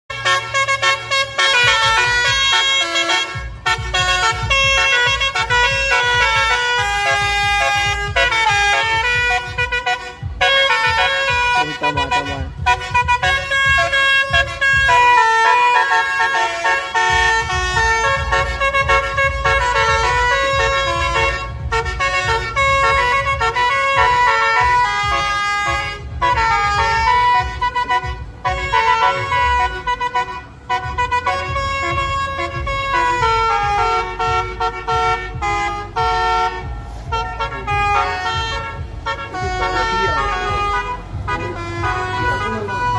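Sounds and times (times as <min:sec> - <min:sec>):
multi-tone air horns melody: 0:00.1 - 0:42.9.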